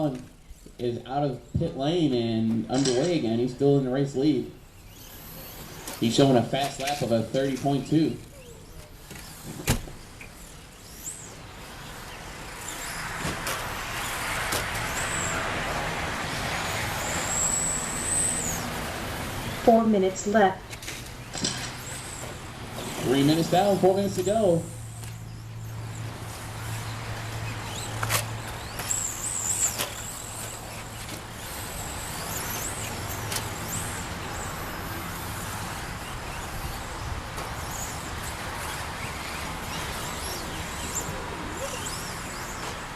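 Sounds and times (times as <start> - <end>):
high-pitched motor whine: 0.0 - 42.9
rc trucks motors and tyres rushing: 0.0 - 42.9.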